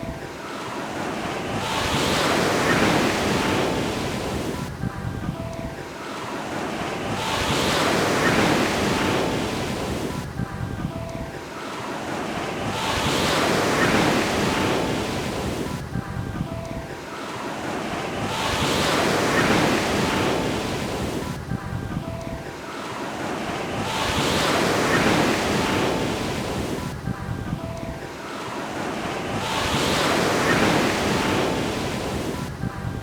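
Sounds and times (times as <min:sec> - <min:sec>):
ocean waves breaking on beach: 0:00.0 - 0:33.0.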